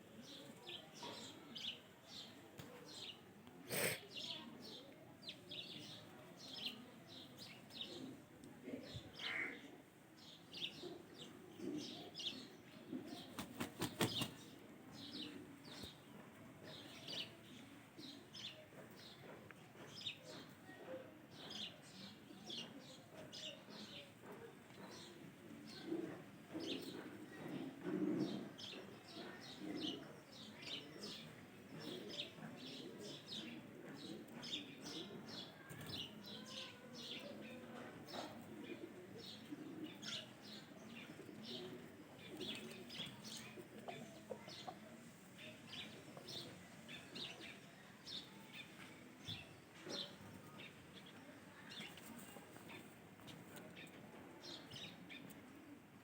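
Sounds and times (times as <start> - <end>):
low uneven murmur: 0.0 - 56.0.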